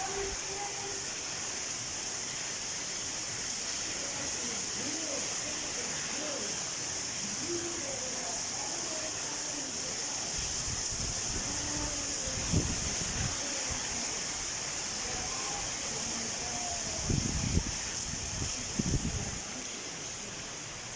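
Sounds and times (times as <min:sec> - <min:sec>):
faint distant voices: 0:00.0 - 0:20.9
heavy rain falling: 0:00.0 - 0:20.9.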